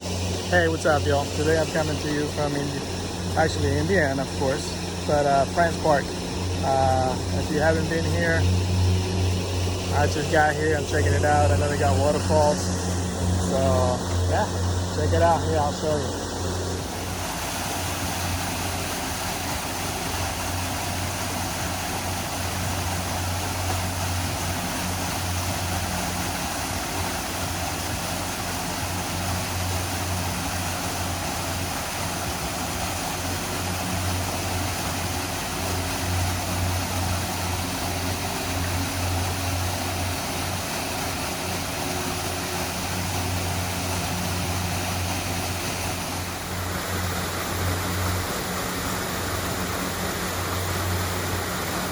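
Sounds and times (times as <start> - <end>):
low engine hum: 0.0 - 51.9
waterfall rushing: 0.0 - 51.9.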